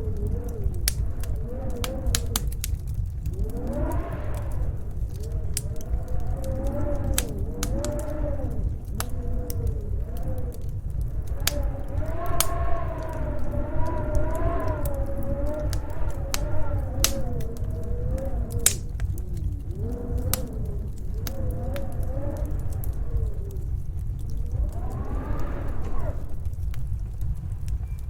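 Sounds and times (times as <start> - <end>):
low rumble: 0.0 - 28.0
storm wind howling: 0.0 - 28.0
wood fire crackling and popping: 0.0 - 28.0.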